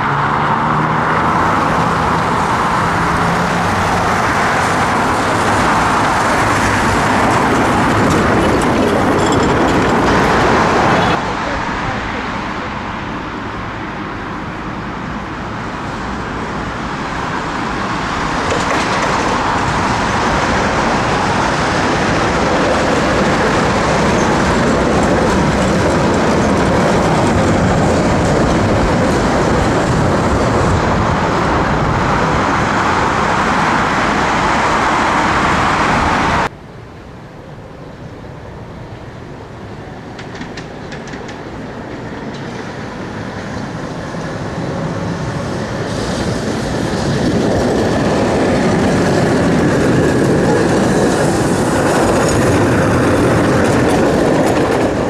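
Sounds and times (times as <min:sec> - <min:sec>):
quiet street noise: 0:00.0 - 0:55.0
tram wheels on street rails: 0:00.0 - 0:55.0.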